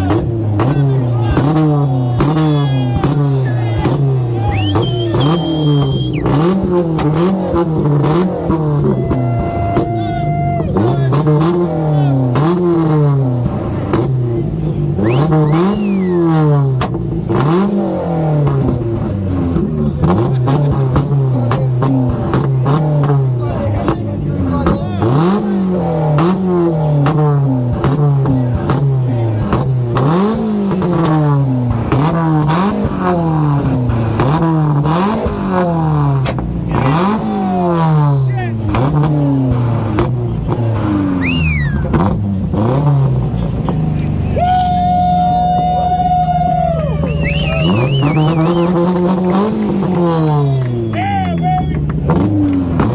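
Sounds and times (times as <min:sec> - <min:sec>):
car engine revving: 0:00.0 - 0:52.9
crowd noise: 0:00.0 - 0:52.9.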